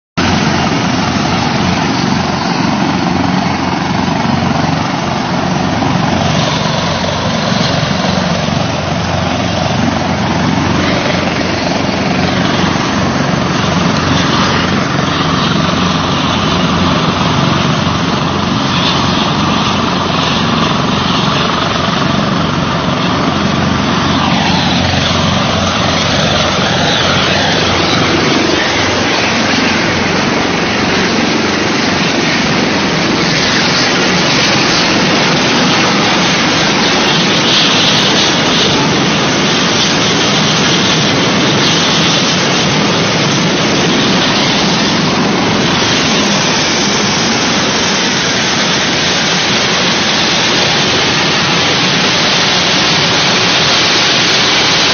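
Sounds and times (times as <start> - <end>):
helicopter rotor and engine: 0.2 - 54.9.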